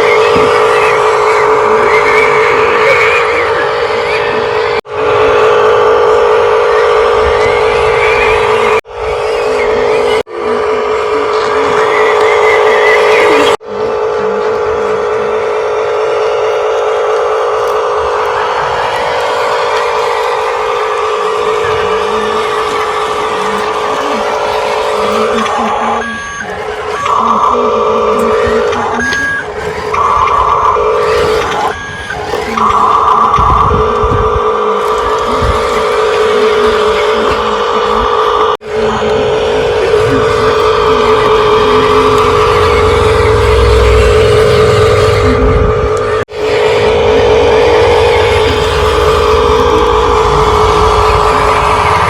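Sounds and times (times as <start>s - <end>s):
electric motor whine: 0.0s - 52.0s
electronic buzzing tone: 0.0s - 52.0s.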